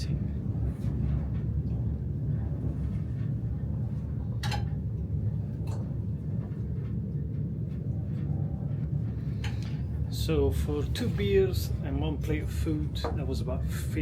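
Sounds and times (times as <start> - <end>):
train rumble inside carriage: 0.0 - 14.0.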